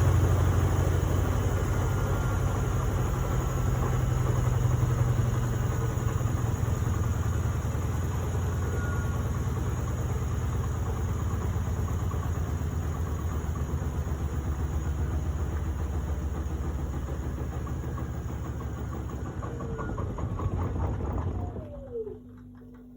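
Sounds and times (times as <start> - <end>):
washing machine humming: 0.0 - 22.9.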